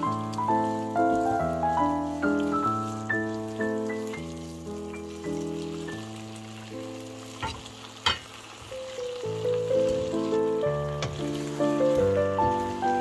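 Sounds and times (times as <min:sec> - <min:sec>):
gentle instrumental music: 0:00.0 - 0:13.0
vegetables sizzling in a wok: 0:00.0 - 0:13.0.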